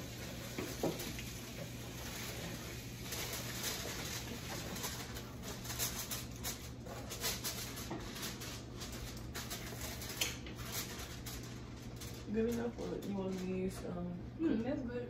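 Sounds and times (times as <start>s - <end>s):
aluminum foil crinkling: 0.0s - 14.1s
low steady hum: 0.0s - 15.0s.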